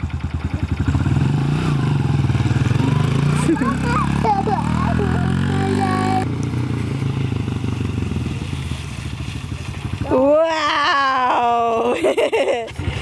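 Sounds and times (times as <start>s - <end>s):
dirt bike engine running: 0.0s - 10.4s.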